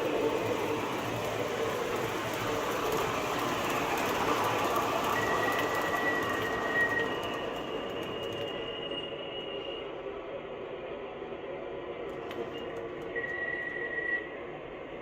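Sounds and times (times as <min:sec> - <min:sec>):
model train running: 0:00.0 - 0:14.9.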